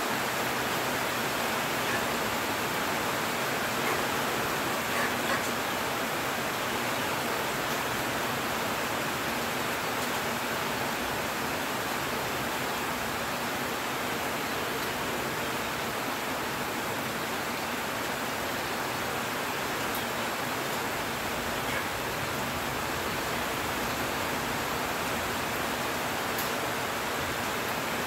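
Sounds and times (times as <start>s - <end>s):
heavy rain on foliage and metal roof: 0.0s - 28.0s.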